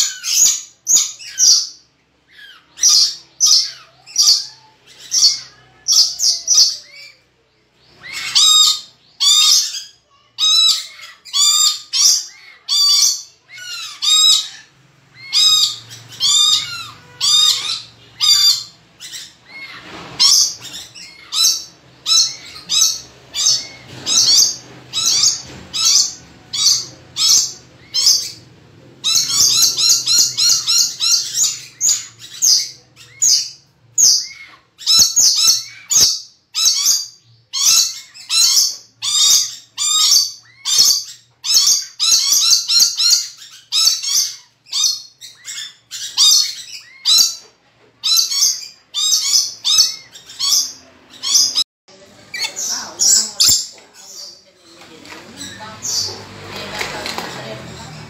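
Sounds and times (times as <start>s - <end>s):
parrot high-pitched calls: 0.0s - 54.3s.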